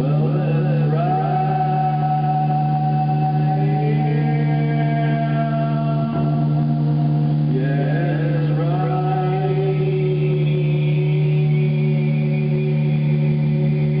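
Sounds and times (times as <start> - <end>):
long held tones: 0.0 - 14.0
low musical drone: 0.0 - 14.0.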